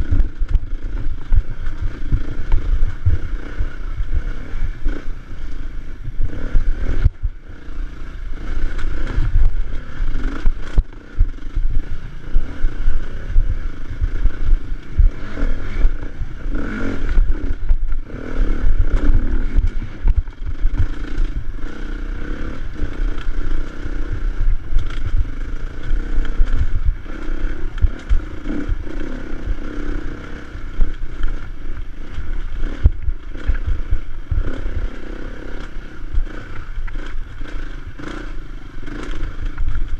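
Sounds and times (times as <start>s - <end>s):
low thumps and rattles: 0.0s - 7.4s, 8.3s - 39.9s
dirt bike engine revving: 0.0s - 39.9s.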